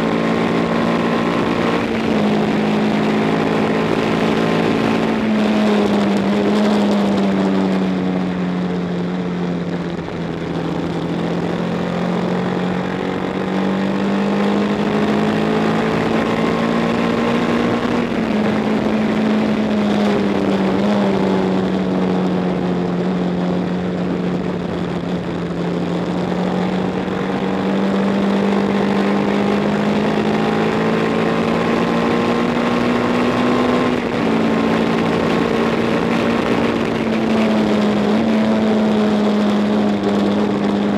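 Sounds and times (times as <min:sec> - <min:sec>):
racing motorcycle engine: 0:00.0 - 0:40.9
wind rush: 0:00.0 - 0:40.9.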